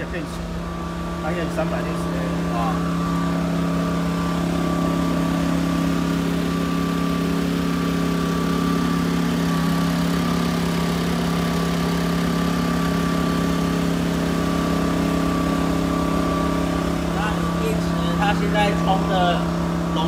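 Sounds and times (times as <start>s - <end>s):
generator engine humming: 0.0s - 20.0s.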